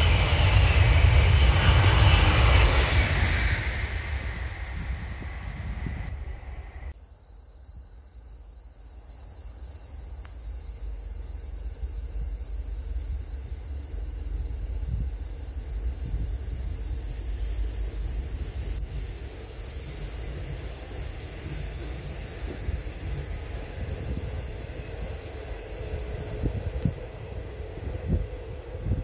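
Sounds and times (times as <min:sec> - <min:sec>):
passing train rumble: 0:00.0 - 0:07.0, 0:08.6 - 0:29.0
insects chirring: 0:00.0 - 0:29.0.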